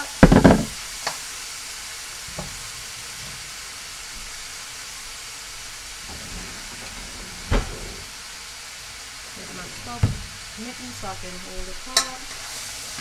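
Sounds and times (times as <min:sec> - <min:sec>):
meat sizzling in a pot: 0:00.0 - 0:06.0, 0:08.0 - 0:13.0.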